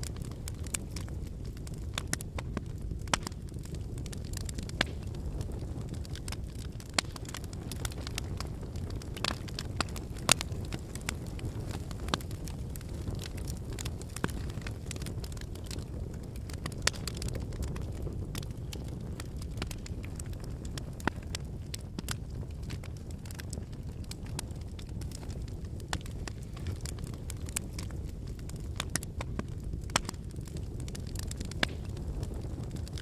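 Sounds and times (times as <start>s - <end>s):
firewood crackling and popping: 0.0s - 33.0s
low rumble of flames: 0.0s - 33.0s.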